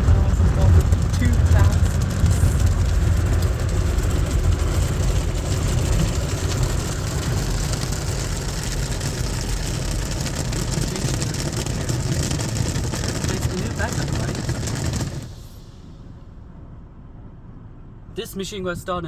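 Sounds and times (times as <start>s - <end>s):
car wash brushes and water: 0.0s - 16.8s.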